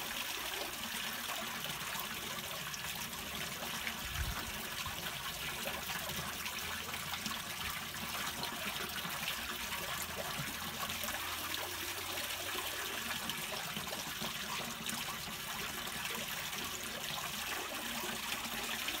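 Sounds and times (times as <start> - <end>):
water draining into storm drain: 0.0 - 19.0.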